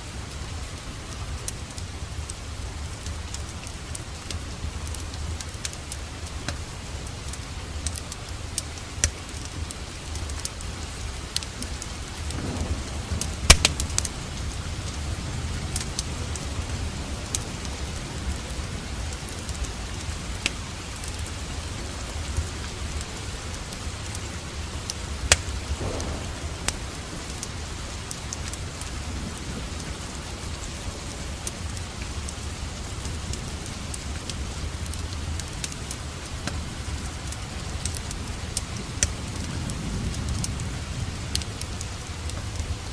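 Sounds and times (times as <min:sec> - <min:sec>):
steady rain: 0:00.0 - 0:42.9
wood fire crackling: 0:00.0 - 0:42.9.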